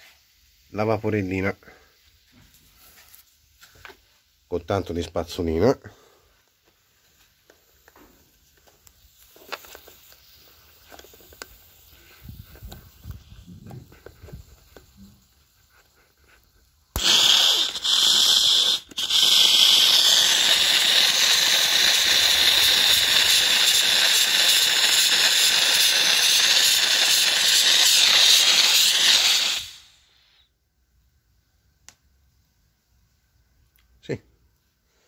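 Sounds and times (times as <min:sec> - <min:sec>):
steam cleaner hissing: 0:00.0 - 0:03.0, 0:05.0 - 0:30.5.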